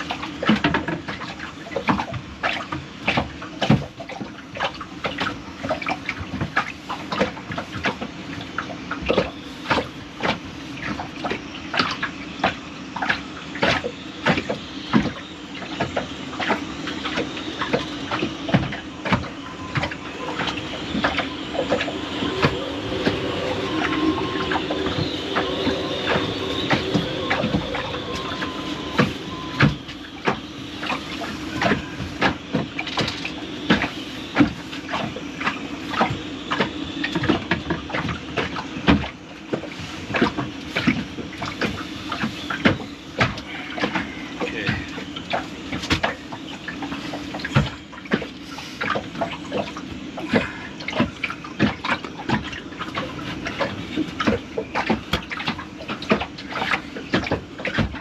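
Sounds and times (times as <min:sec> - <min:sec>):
watery wash: 0:00.0 - 0:58.0.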